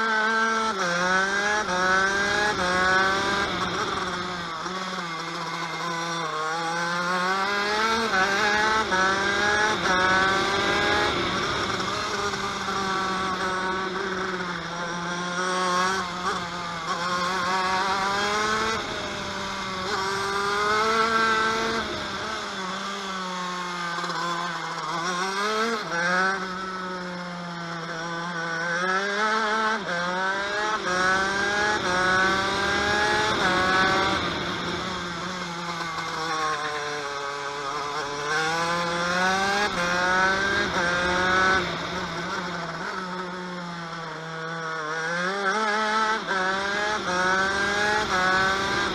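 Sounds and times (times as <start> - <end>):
kart engine revving: 0.0 - 48.9.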